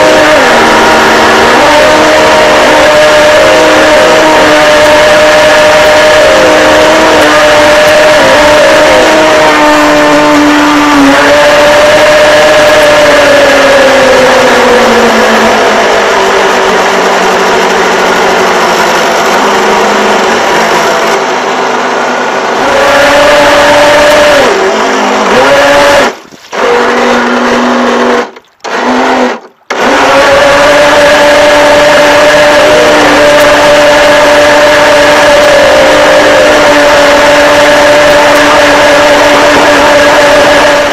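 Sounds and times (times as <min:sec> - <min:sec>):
rc boat motor whining: 0:00.0 - 0:40.9.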